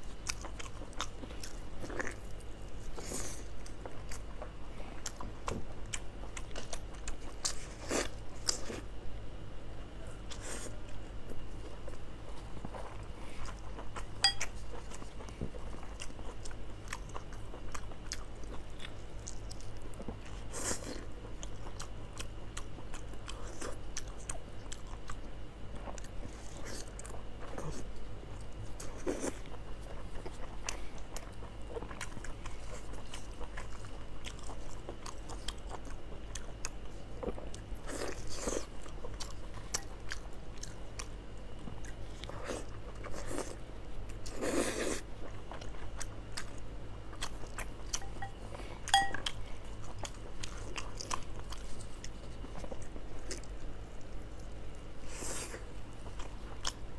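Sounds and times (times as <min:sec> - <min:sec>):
low steady hum: 0:00.0 - 0:56.9
chewing and biting: 0:00.1 - 0:08.9, 0:11.8 - 0:56.9.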